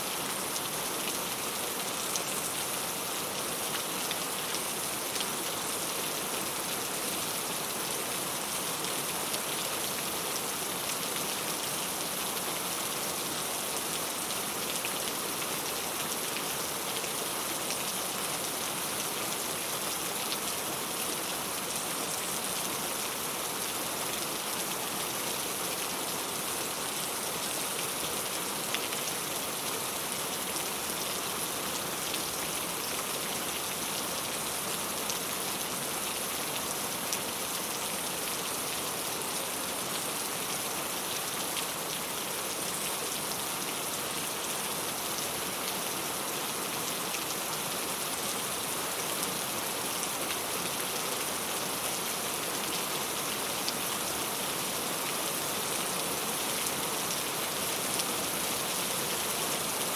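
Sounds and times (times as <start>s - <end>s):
rain on a tile roof: 0.0s - 59.9s.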